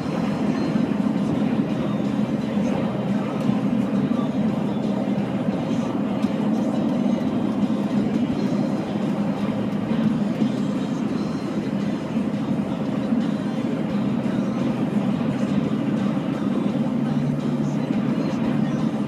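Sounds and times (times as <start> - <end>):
road and tyre rumble in car: 0.0 - 19.0.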